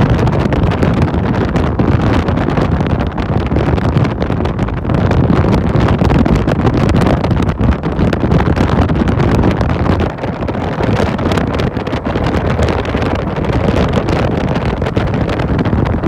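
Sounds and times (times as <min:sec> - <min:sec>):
motorcycle road and motor noise: 0:00.0 - 0:16.0
wind buffeting microphone: 0:00.0 - 0:16.0.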